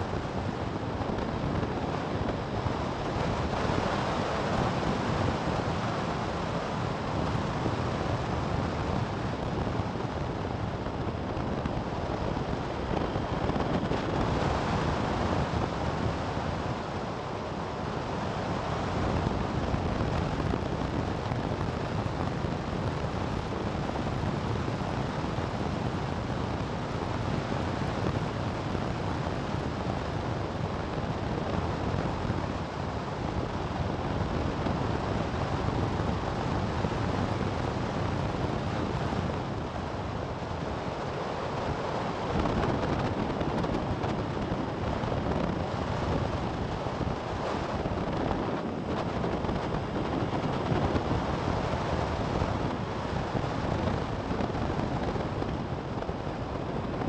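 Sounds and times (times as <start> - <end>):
road and engine noise: 0.0 - 57.0
wind rushing over microphone: 0.0 - 57.0.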